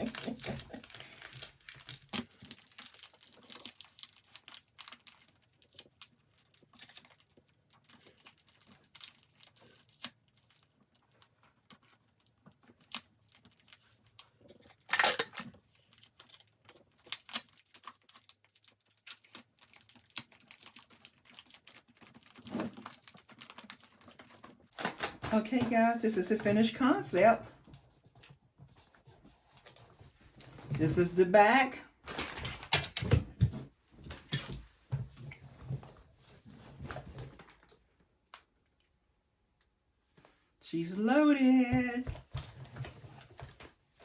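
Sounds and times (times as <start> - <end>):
packaging crinkling and rustling: 0.0 - 30.8, 32.0 - 38.4.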